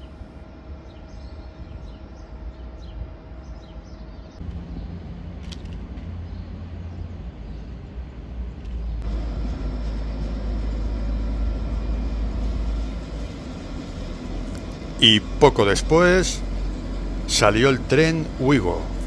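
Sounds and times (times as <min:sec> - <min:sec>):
standing train rumble and hum: 0:00.0 - 0:19.0.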